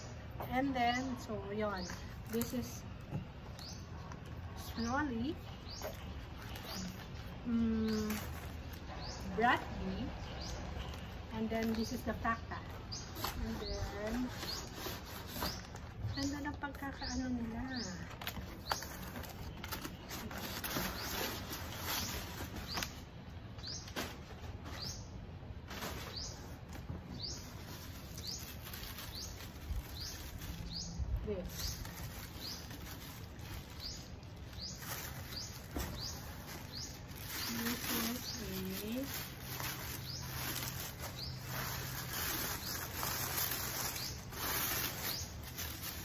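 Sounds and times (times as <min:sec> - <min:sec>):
bird chirping: 0:00.0 - 0:25.3, 0:25.9 - 0:46.0
packing paper crinkling and rustling: 0:01.8 - 0:08.9, 0:10.4 - 0:23.2, 0:25.5 - 0:46.0.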